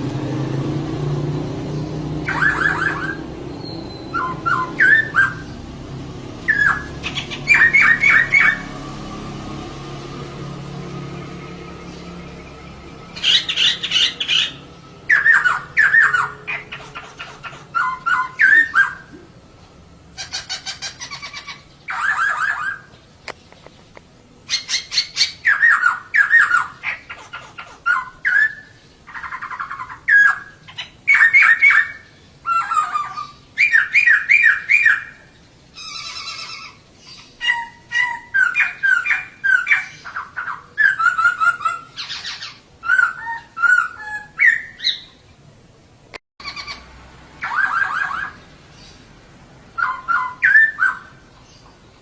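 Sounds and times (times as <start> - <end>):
bird chattering calls: 2.2 - 5.6, 6.4 - 8.7, 12.4 - 19.3, 20.1 - 23.8, 24.5 - 45.2, 46.4 - 49.0, 49.8 - 51.8.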